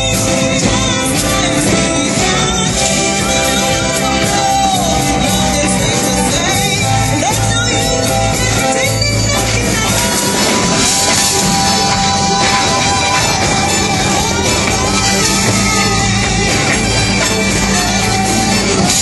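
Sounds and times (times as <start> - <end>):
bass line: 0.0 - 19.0
drums: 0.0 - 19.0
lead singer: 0.0 - 19.0
rock band playing: 0.0 - 19.0
violins: 0.0 - 19.0.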